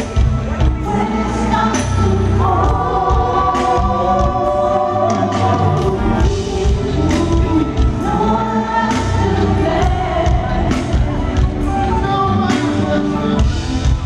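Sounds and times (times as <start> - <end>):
lead singer: 0.0 - 14.0
backing vocalists singing: 0.6 - 14.0.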